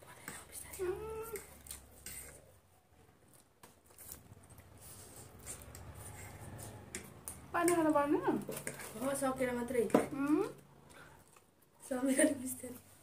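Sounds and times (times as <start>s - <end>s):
people eating noodles: 0.1s - 13.0s.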